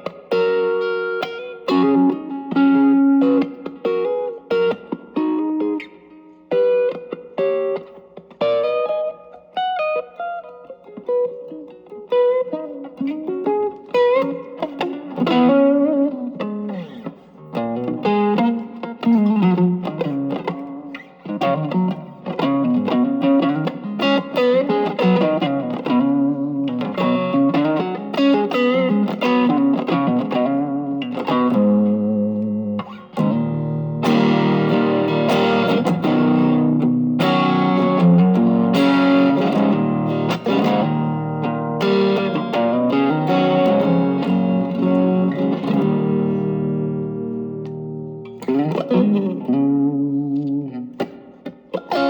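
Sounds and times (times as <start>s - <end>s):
overdriven electric guitar: 0.0s - 52.0s.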